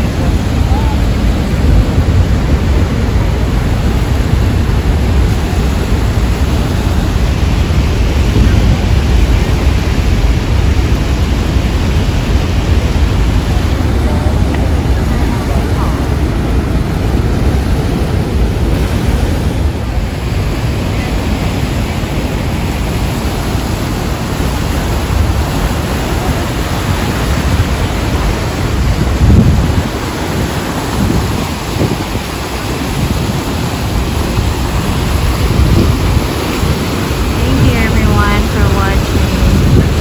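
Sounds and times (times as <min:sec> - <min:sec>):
loud low rumble: 0:00.0 - 0:30.2, 0:34.4 - 0:40.0
waterfall roaring: 0:00.0 - 0:40.0
wind rumbling on microphone: 0:00.0 - 0:40.0.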